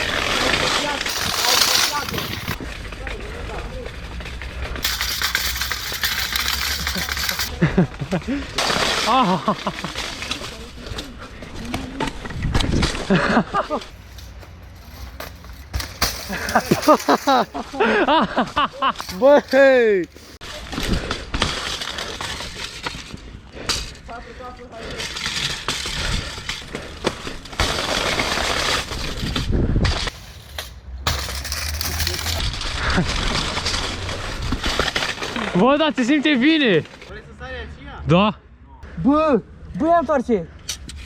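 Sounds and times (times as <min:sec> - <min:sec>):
bike rim rattling over ground: 0:00.0 - 0:37.1.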